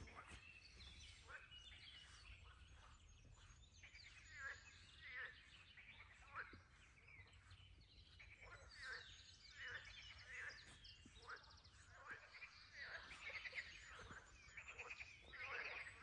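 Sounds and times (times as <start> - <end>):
birds calling: 0.0 - 16.0
frogs croaking: 0.0 - 16.0.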